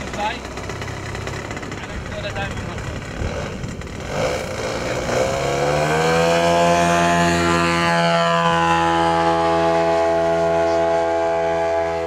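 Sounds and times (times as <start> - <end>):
model plane engine revving: 0.0 - 12.0.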